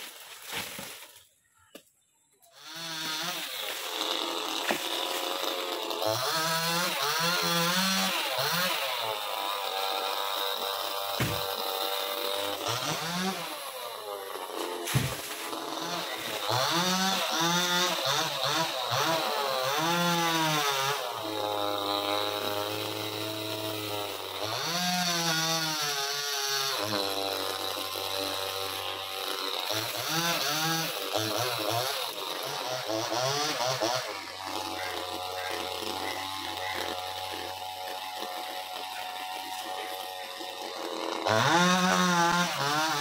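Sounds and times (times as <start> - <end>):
chainsaw revving and idling: 2.5 - 43.0.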